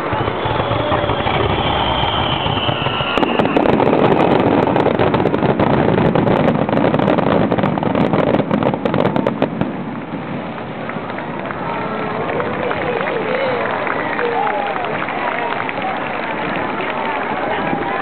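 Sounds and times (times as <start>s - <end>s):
fireworks crackling: 0.0s - 18.0s.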